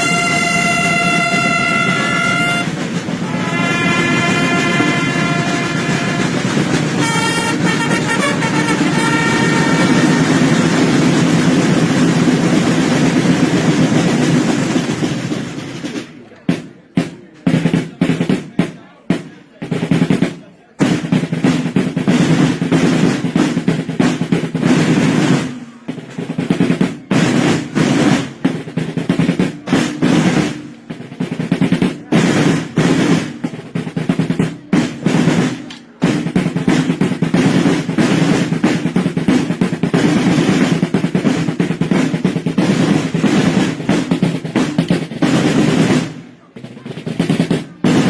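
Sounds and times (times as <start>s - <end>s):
side drums rolling: 0.0s - 48.0s.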